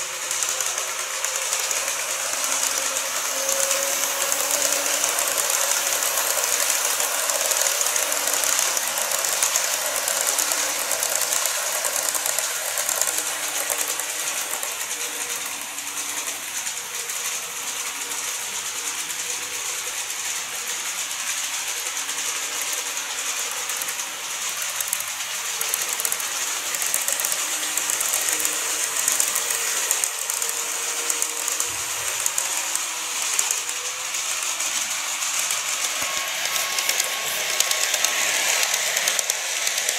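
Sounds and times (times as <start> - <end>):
model train wheels clicking on rail: 0.0 - 39.9.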